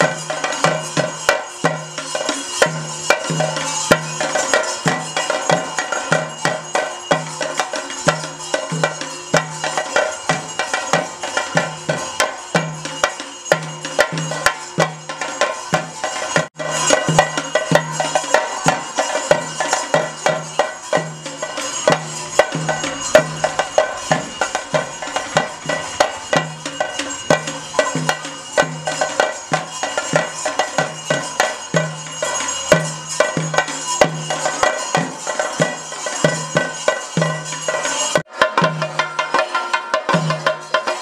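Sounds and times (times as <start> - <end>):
drums played in rapid strokes: 0.0 - 41.0
hand cymbals ringing: 0.0 - 41.0.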